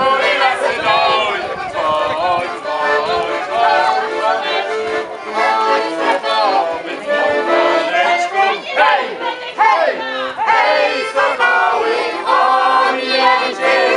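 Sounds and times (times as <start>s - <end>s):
accordion playing chords: 0.0s - 13.9s
group of voices singing: 0.0s - 13.9s.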